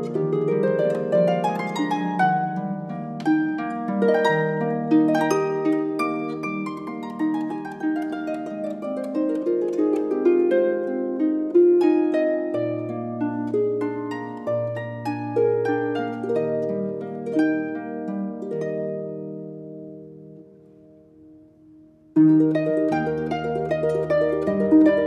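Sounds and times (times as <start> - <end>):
harp plucked notes: 0.0 - 25.0.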